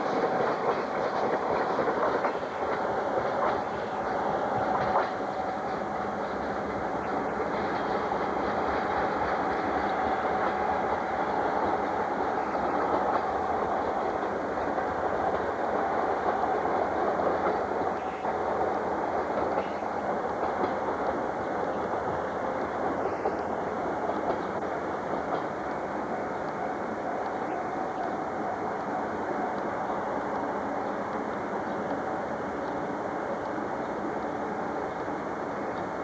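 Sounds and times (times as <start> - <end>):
train wheels on rail: 0.0 - 36.0.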